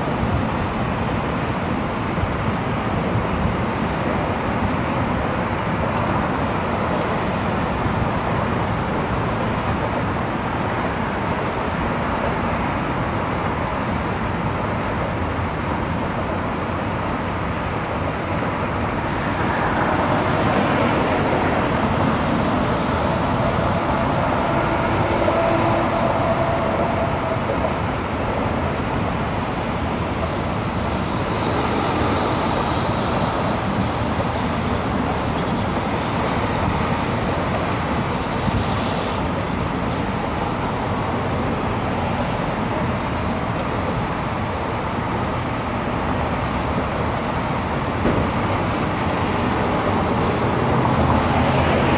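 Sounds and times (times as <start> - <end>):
road traffic passing: 0.0 - 51.9.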